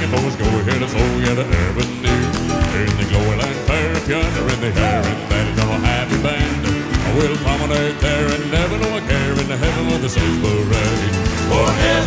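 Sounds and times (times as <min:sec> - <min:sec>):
band bass and drums: 0:00.0 - 0:12.0
male quartet singing in harmony: 0:00.0 - 0:12.0.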